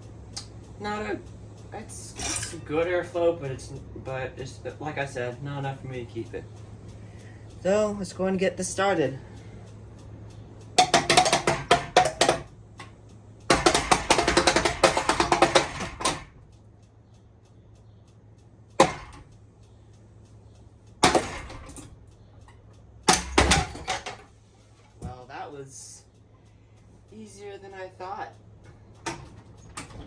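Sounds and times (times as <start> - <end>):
ceiling fan clattering: 0.0 - 30.0.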